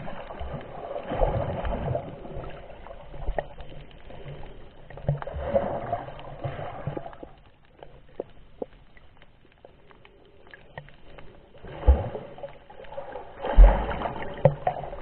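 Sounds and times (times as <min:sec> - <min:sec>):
water sloshing and gurgling underwater: 0:00.0 - 0:15.0.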